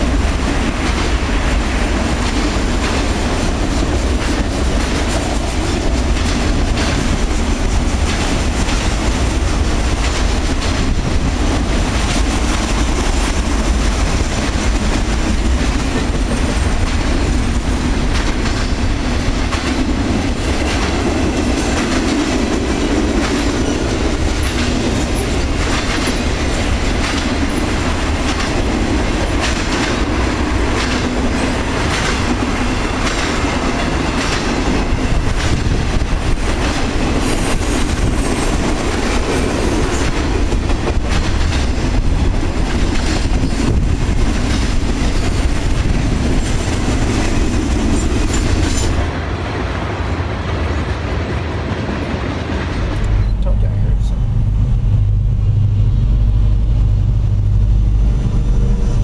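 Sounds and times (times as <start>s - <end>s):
train wheels rumbling on rails: 0.0s - 59.0s
wheels clicking over rail joints: 0.4s - 49.2s.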